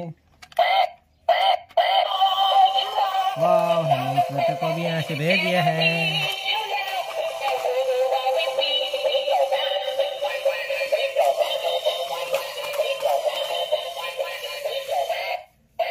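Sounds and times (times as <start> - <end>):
toy playing synthetic song: 0.4 - 15.9.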